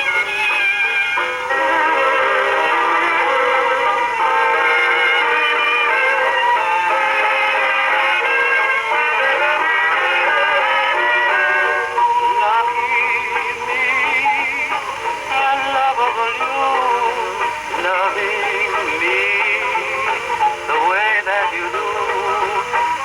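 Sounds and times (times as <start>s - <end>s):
dance-band record on phonograph: 0.0s - 23.0s
person singing: 0.0s - 23.0s.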